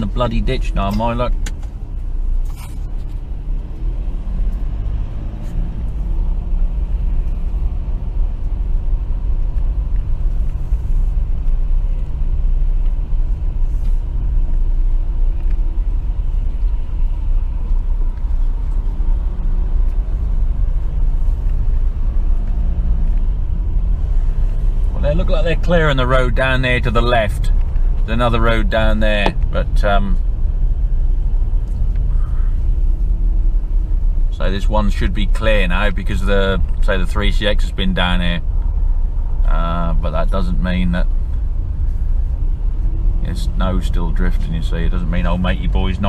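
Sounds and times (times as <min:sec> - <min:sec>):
engine and road rumble: 0:00.0 - 0:46.0.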